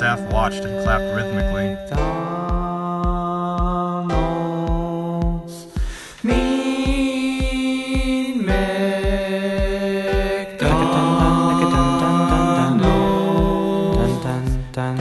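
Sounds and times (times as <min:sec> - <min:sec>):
low kick-drum beat: 0:00.0 - 0:14.7.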